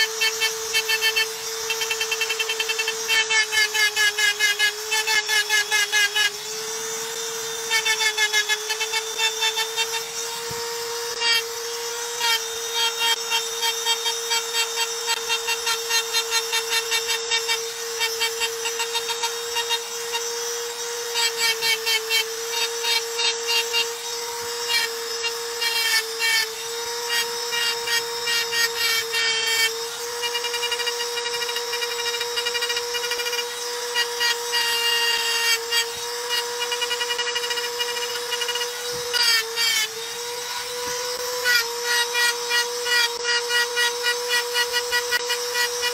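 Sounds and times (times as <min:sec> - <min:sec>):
bit grinding against stone: 0:00.0 - 0:45.9
engraving tool motor whine: 0:00.0 - 0:45.9.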